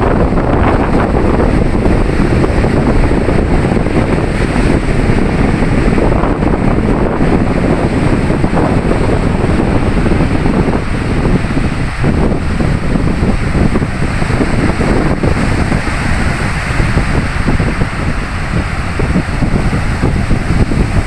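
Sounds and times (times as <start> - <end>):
sea waves washing onto beach: 0.0 - 21.0
wind buffeting microphone: 0.0 - 21.0.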